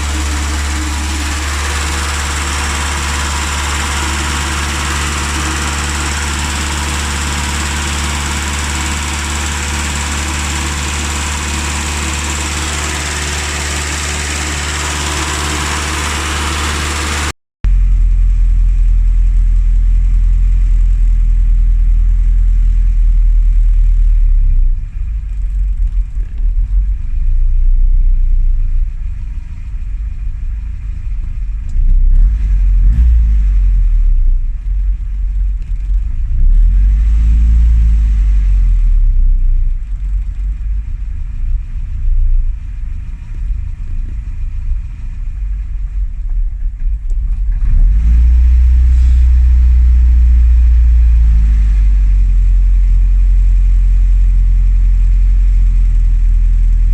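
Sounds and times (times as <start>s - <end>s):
car engine idling and revving: 0.0s - 56.9s.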